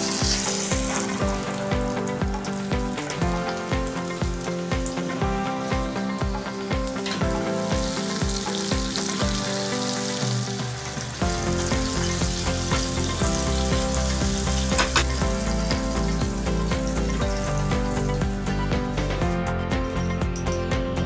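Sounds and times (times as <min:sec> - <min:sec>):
chicken sizzling in oil: 0:00.0 - 0:19.4
background music with a beat: 0:00.0 - 0:21.0.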